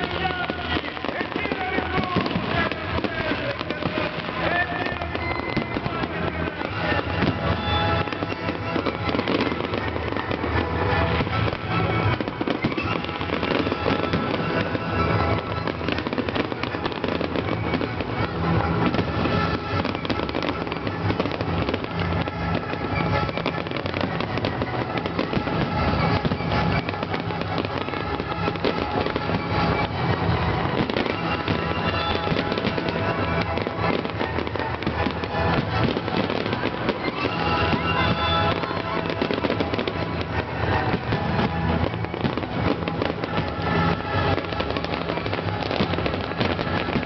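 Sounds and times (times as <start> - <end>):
fireworks bangs and crackling: 0.0 - 47.0
music playing: 0.0 - 47.0.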